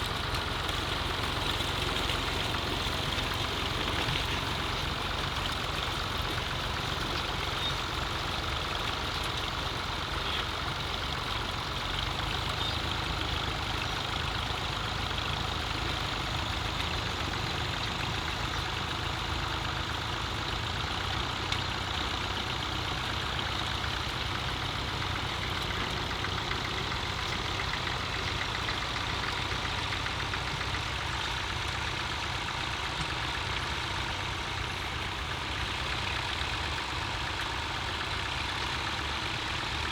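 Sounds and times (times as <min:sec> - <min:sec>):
steady mechanical engine hum: 0:00.0 - 0:39.9.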